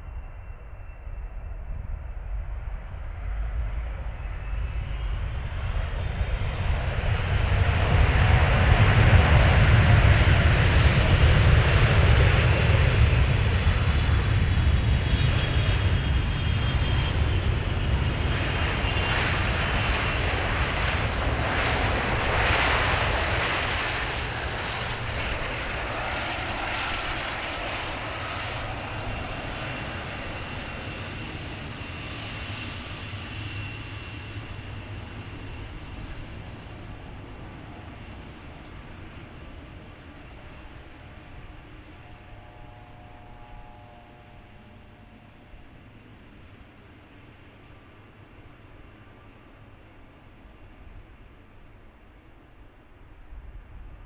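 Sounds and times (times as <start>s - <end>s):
jet engines passing: 0.0s - 54.0s.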